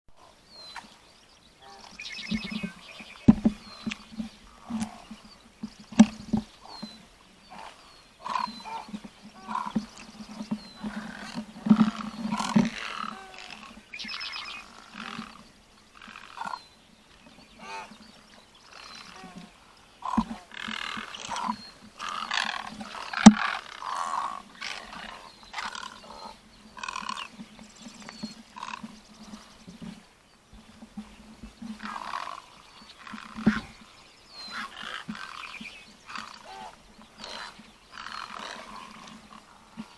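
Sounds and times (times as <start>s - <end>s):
egrets and herons croaking: 0.2s - 39.9s.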